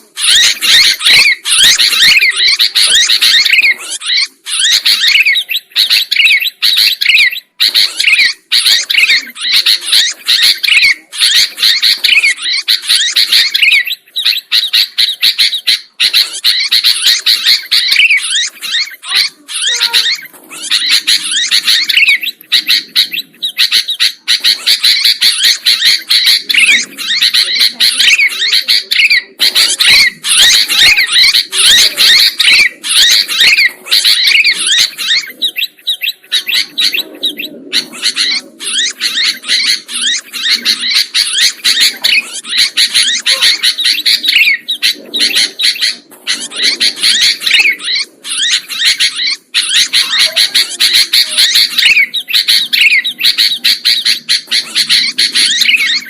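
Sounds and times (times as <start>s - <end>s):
bird singing rapid chirps: 0.0s - 56.0s.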